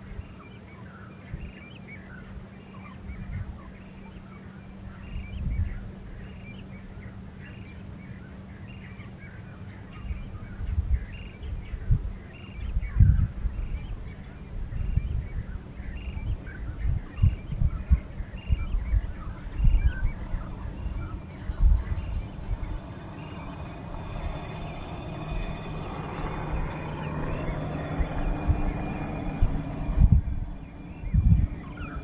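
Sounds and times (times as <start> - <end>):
birds chirping: 0.0 - 32.0
faint low hum: 0.0 - 32.0
wind gusting on microphone: 0.0 - 32.0.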